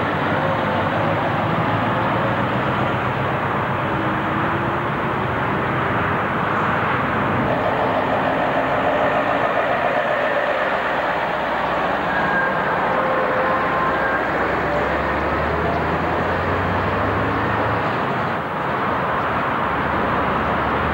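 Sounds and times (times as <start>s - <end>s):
diesel lorry engines: 0.0s - 20.9s.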